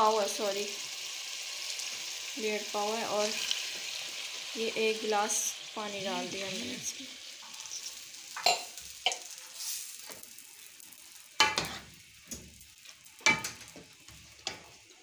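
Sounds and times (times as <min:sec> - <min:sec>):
soft sizzle: 0:00.0 - 0:15.0.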